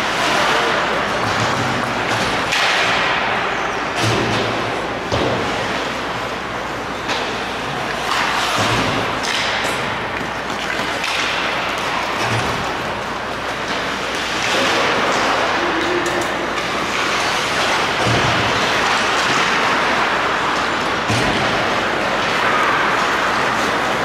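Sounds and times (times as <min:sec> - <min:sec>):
sticks and puck thudding: 0:00.0 - 0:06.1, 0:06.7 - 0:24.0.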